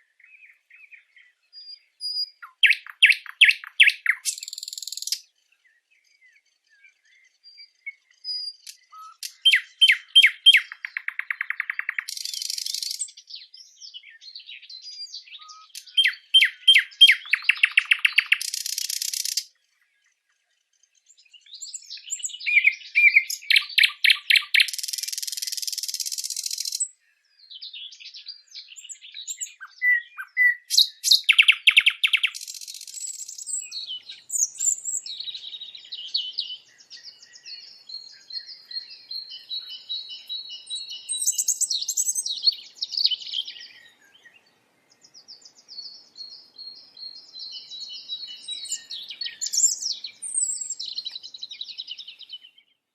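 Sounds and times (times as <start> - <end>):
songbirds chirping and trilling: 0.0 - 52.9.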